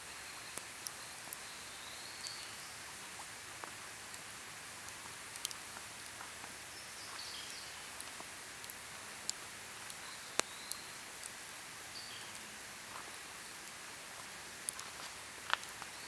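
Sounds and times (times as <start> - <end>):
fire hissing: 0.0 - 16.0
campfire crackling and popping: 0.1 - 16.0.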